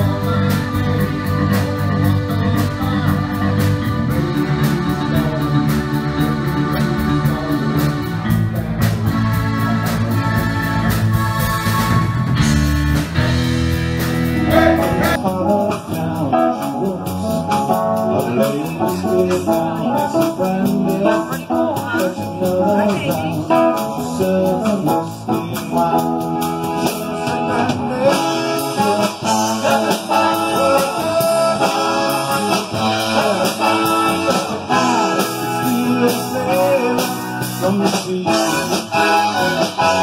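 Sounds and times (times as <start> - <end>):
drum kit: 0.0 - 40.0
electric guitar: 0.0 - 40.0
keyboard: 0.0 - 40.0.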